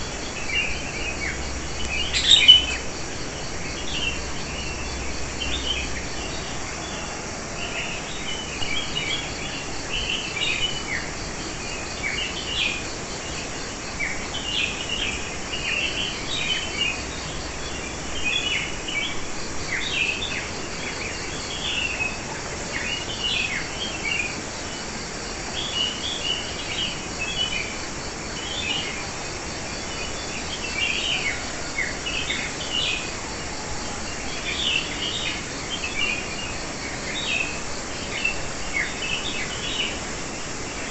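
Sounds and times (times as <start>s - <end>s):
insect trill: 0.0s - 40.9s
songbirds chirping: 0.0s - 40.9s.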